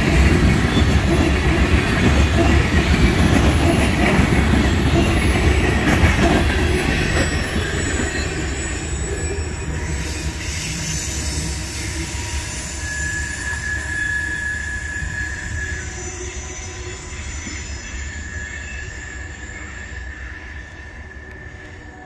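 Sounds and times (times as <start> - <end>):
steel wheels squealing: 0.0 - 22.0
train rolling over rails: 0.0 - 22.0.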